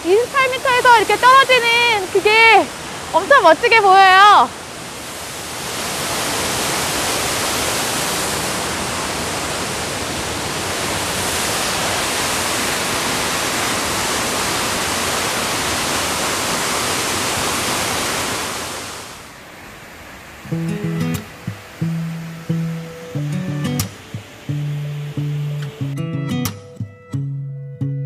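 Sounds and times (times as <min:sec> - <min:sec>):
waterfall rushing: 0:00.0 - 0:26.5.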